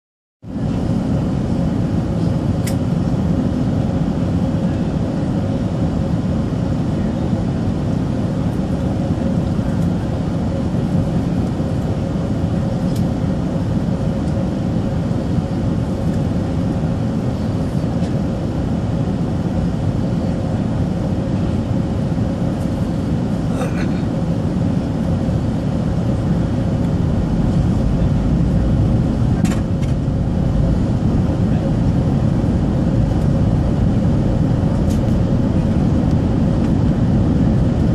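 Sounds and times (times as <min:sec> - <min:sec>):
airplane cabin low rumble: 0:00.4 - 0:37.9
faint steady hum: 0:00.5 - 0:37.9.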